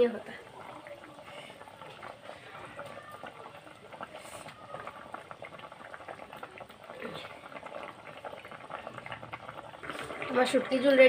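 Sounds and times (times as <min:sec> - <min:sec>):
curry boiling in a pan: 0:00.0 - 0:11.0.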